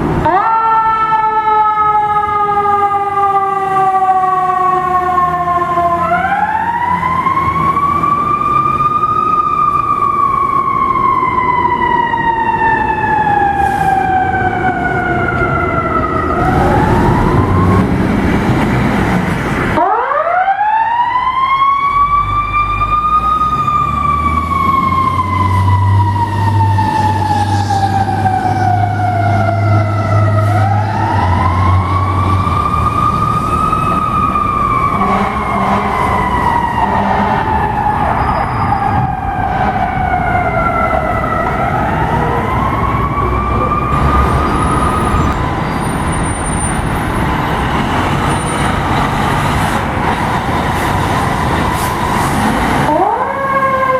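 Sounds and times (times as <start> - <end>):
fire truck siren wailing: 0.0 - 53.9.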